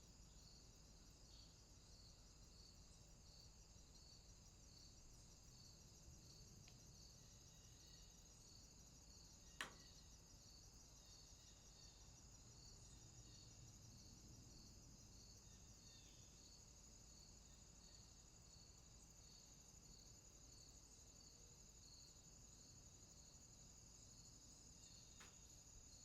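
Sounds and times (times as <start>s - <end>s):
lower pulsing insect chirp: 0.0s - 26.0s.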